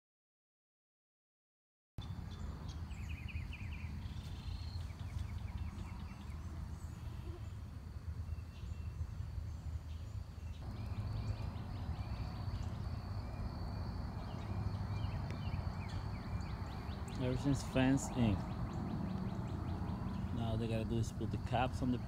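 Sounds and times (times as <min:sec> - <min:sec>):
birds chirping and trilling: 0:02.0 - 0:22.0.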